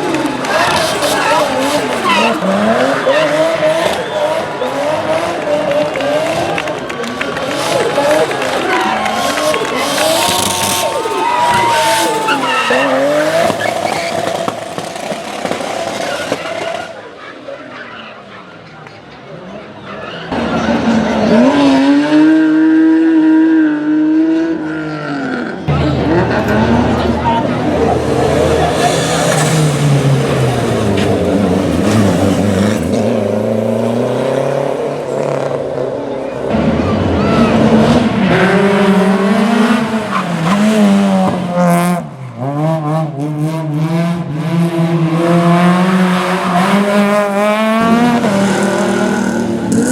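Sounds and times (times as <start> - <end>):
rally car engine at high revs: 0.0 - 17.2, 20.2 - 49.9.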